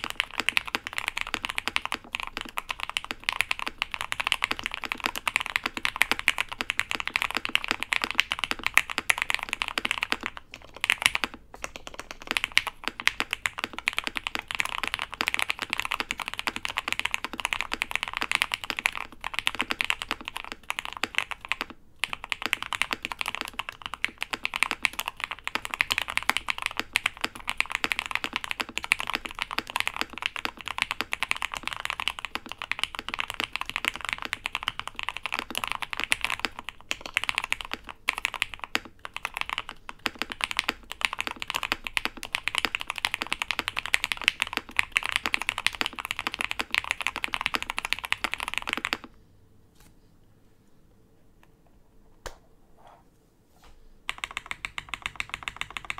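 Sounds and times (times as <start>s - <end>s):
fast mechanical keyboard typing: 0.0s - 49.1s, 54.1s - 55.9s.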